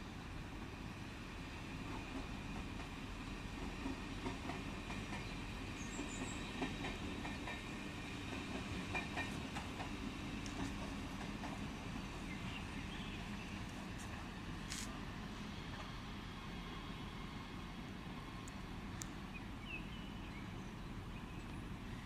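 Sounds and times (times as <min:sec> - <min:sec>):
train rolling rumble: 0:00.0 - 0:22.0.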